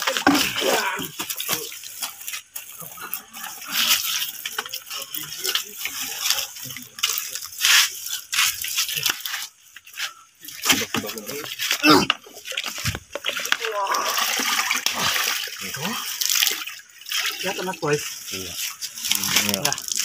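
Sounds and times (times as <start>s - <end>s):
water splashing on ground: 0.0s - 20.0s.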